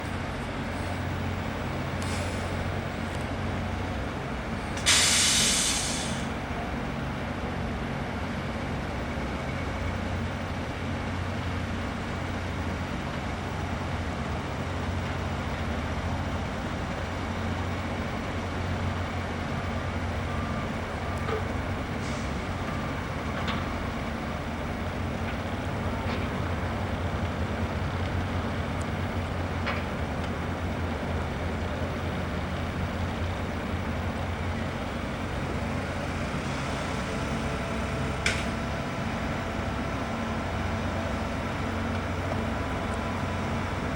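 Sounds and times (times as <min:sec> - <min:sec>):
heavy diesel machinery engine drone: 0:00.0 - 0:43.9.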